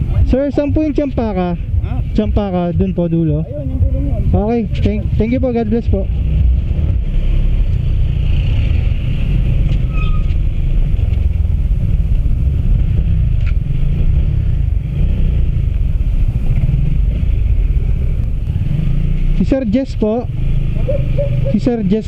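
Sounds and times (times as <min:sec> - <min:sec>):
wind and road noise rumble: 0:00.0 - 0:22.0.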